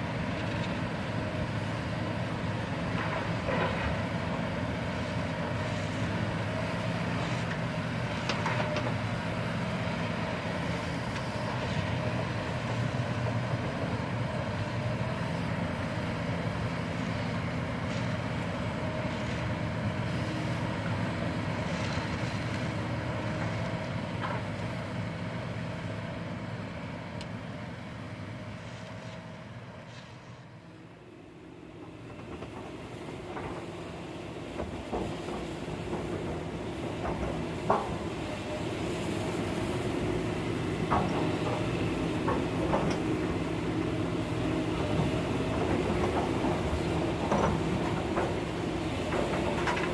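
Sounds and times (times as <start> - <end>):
dump truck diesel engine: 0.0 - 49.9
excavator diesel engines: 0.0 - 49.9.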